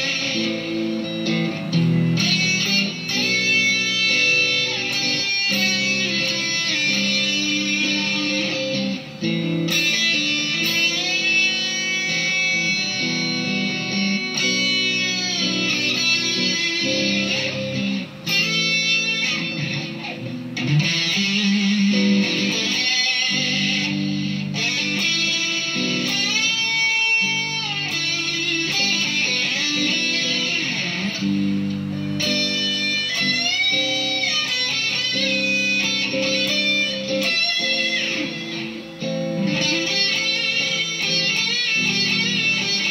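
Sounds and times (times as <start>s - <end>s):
looped guitar rhythm part: 0.0s - 42.9s
overdriven electric guitar lead: 0.0s - 42.9s.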